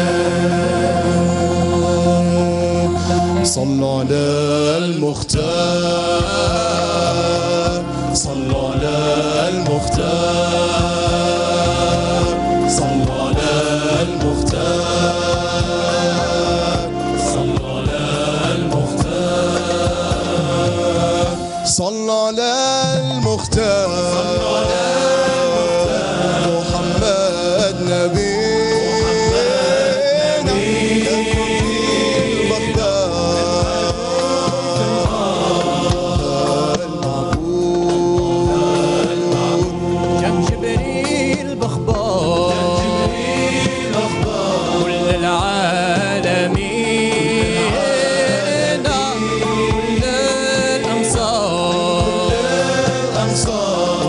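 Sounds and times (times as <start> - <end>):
band accompaniment: 0.0 - 54.0
choir singing: 0.0 - 54.0
male ensemble chanting: 0.0 - 54.0
man singing: 0.0 - 54.0
low drum beats: 5.2 - 21.8, 22.8 - 54.0.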